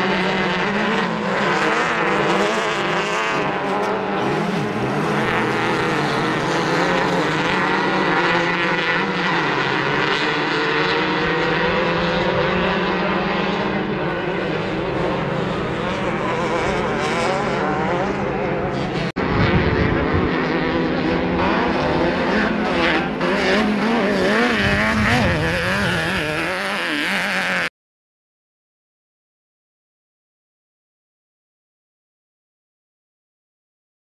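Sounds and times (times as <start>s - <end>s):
buggy engines revving: 0.0s - 27.7s.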